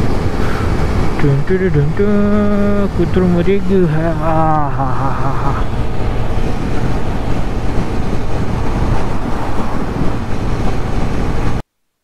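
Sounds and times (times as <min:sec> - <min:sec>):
motorcycle engine running: 0:00.0 - 0:11.6
wind noise on microphone: 0:00.0 - 0:11.6.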